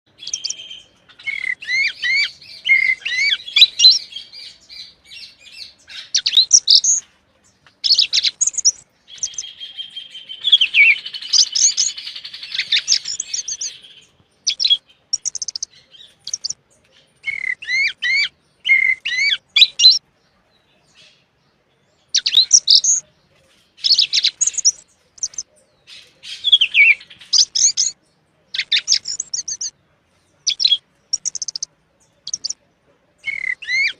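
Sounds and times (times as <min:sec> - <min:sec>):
songbird singing: 0:00.0 - 0:33.9
rapid bird trill: 0:00.1 - 0:07.0, 0:07.8 - 0:16.6, 0:17.2 - 0:20.0, 0:22.1 - 0:23.0, 0:23.8 - 0:29.8, 0:30.4 - 0:32.6, 0:33.2 - 0:33.9.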